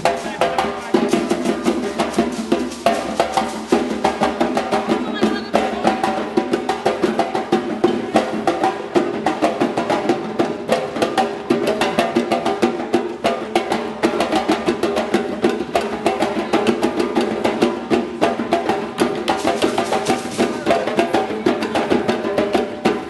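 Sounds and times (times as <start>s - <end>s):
drum ensemble playing: 0.0s - 23.0s.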